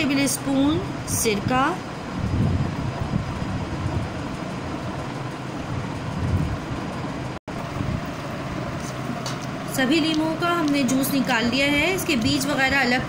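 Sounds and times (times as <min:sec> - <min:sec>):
steady rumbling background noise: 0:00.0 - 0:13.0.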